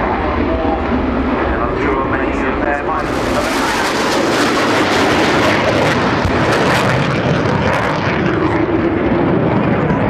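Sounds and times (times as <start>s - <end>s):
jet engine roar with crackling: 0.0s - 10.0s.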